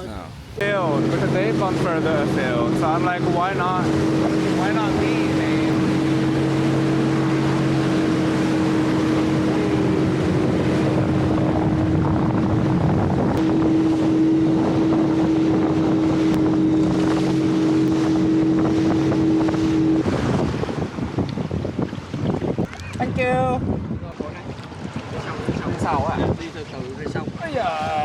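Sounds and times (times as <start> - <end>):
motorboat engine running: 0.0 - 28.0
wind on microphone: 0.0 - 28.0.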